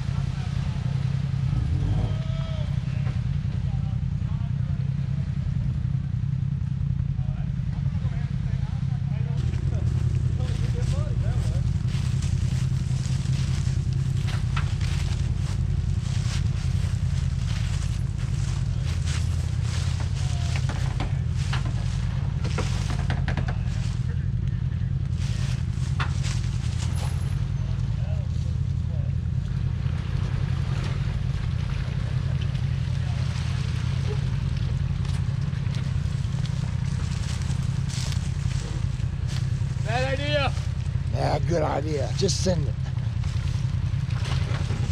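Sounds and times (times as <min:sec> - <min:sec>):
off-road vehicle engine running: 0:00.0 - 0:44.9.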